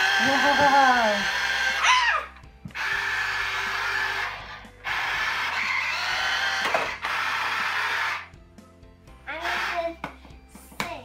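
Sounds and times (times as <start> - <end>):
toy car motor whirring: 0.0 - 8.3, 9.3 - 10.0.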